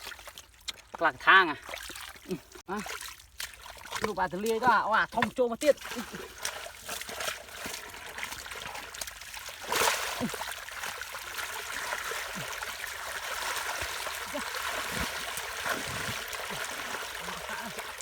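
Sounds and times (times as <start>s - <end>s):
muddy water trickling and splashing: 0.0s - 18.0s.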